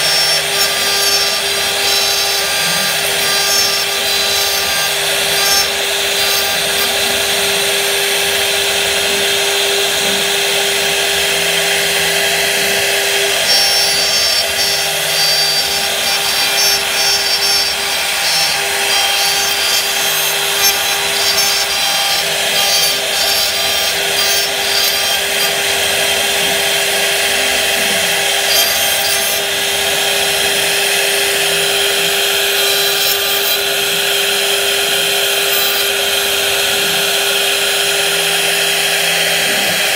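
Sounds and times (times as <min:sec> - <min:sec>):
wood being milled rasping: 0:00.0 - 0:08.8, 0:11.6 - 0:39.9
router spindles whining: 0:00.0 - 0:39.9.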